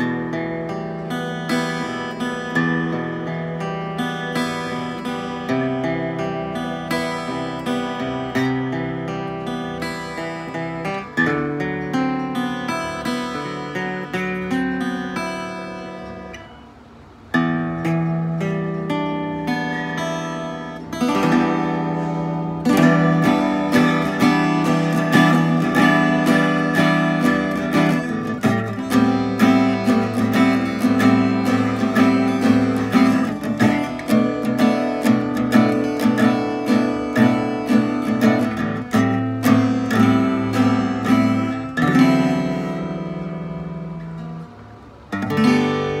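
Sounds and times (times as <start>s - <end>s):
acoustic guitar strummed: 0.0s - 46.0s.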